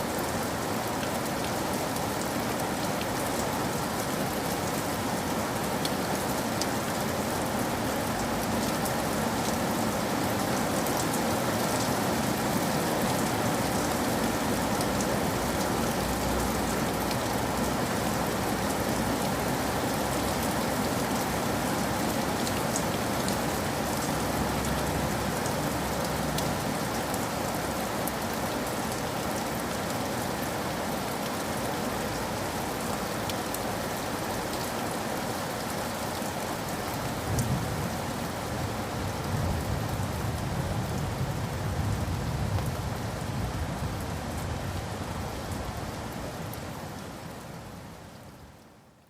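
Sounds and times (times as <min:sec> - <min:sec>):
rain falling on a surface: 0:00.0 - 0:49.0.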